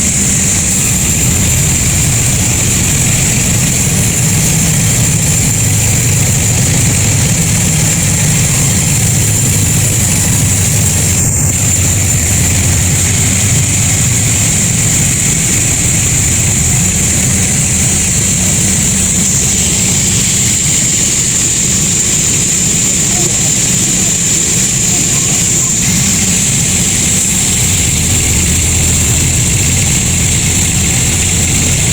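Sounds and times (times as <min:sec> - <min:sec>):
high-pitched machine whine: 0:00.0 - 0:31.9
sawmill machinery hum: 0:00.0 - 0:31.9.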